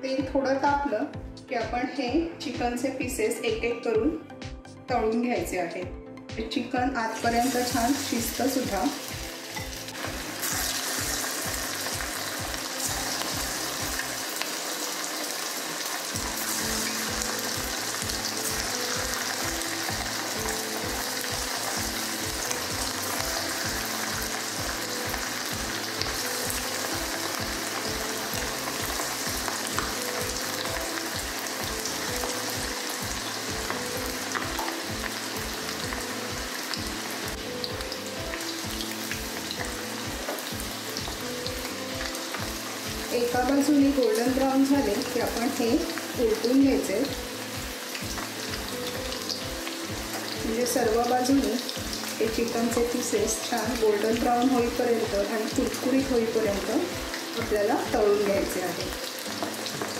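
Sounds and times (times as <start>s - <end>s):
chicken deep-frying in hot oil: 7.2s - 59.9s.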